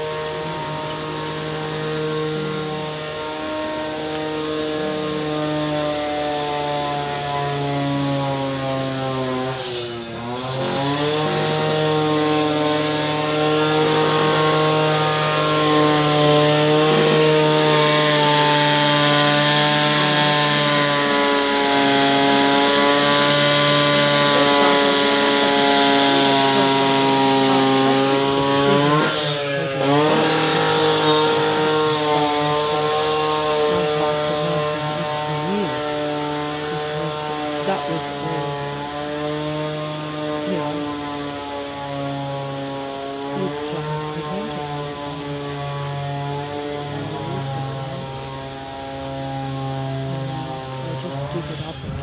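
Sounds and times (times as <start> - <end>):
construction machinery engine drone: 0.0 - 52.0.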